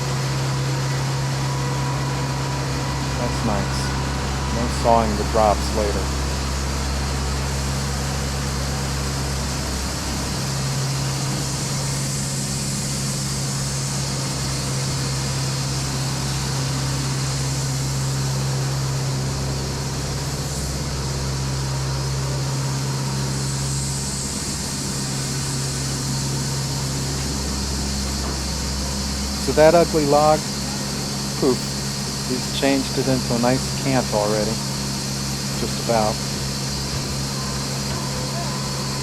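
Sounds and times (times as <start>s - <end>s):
band sawmill sawing log: 0.0s - 39.0s.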